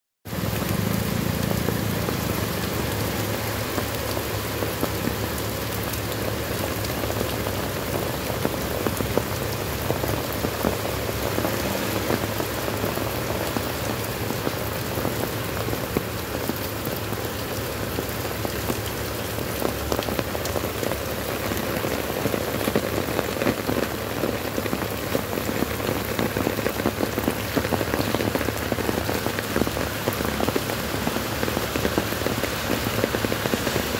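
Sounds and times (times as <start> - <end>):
heavy rain on paving: 0.2 - 33.9
raindrops splashing in puddles: 0.2 - 33.9.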